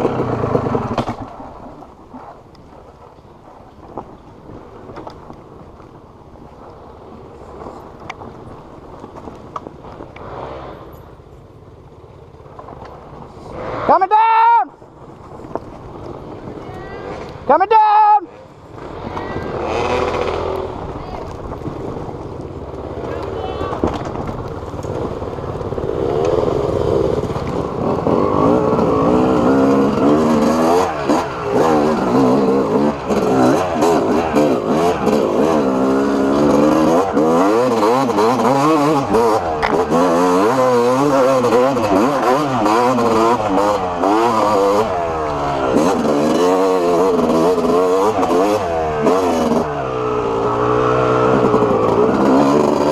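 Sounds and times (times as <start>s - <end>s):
dirt bike engine running: 0.0s - 3.0s, 4.1s - 52.9s.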